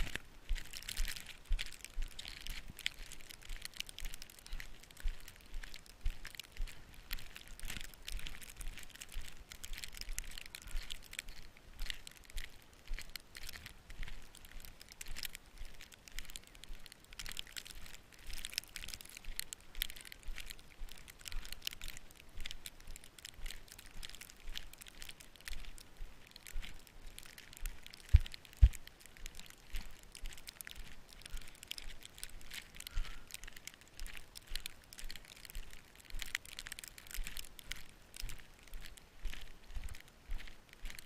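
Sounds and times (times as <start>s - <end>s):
footsteps crunching through snow: 0.0s - 41.0s.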